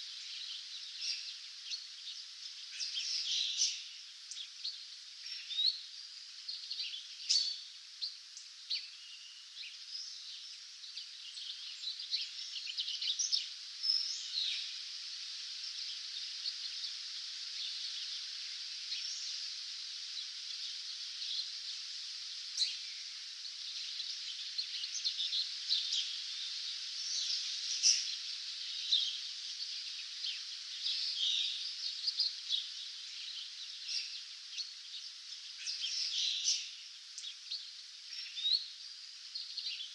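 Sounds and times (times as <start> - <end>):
songbirds chirping and trilling: 0.0 - 39.9
steady high hiss: 0.0 - 39.9.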